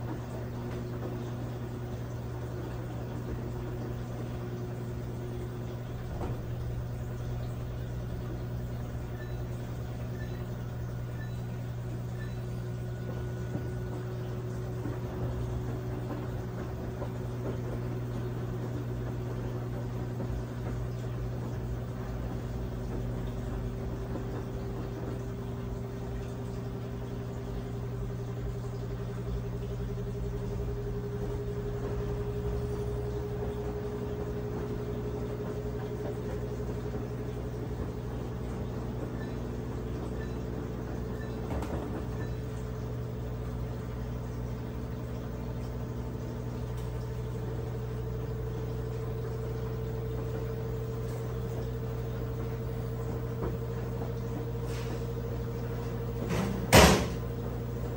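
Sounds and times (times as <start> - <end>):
washing machine running: 0.0 - 57.9.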